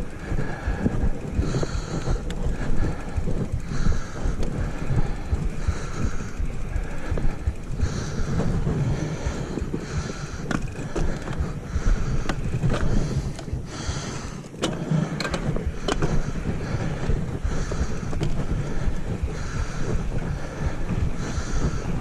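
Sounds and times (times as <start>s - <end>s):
bike frame rattle: 0.0s - 22.0s
bike tyres on gravel: 0.0s - 22.0s
wind on microphone: 0.0s - 22.0s.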